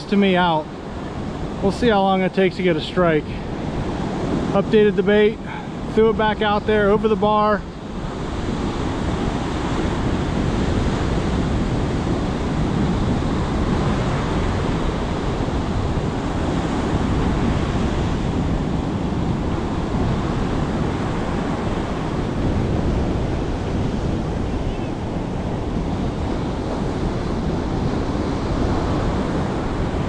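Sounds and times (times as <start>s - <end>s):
surf breaking on a beach: 0.0s - 30.0s
wind buffeting microphone: 0.0s - 30.0s.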